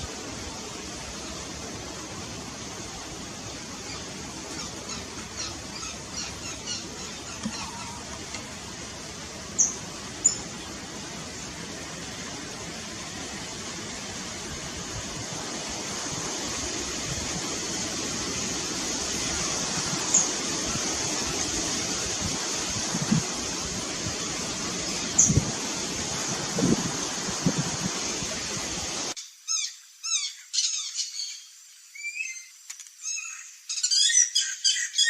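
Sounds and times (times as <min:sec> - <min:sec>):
steady rushing background noise: 0:00.0 - 0:29.2.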